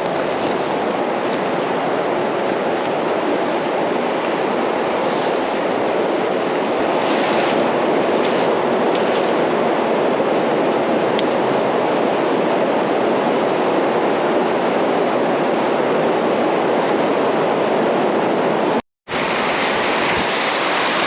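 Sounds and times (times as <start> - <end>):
creek water rushing over rocks: 0.0 - 17.8, 19.1 - 21.0.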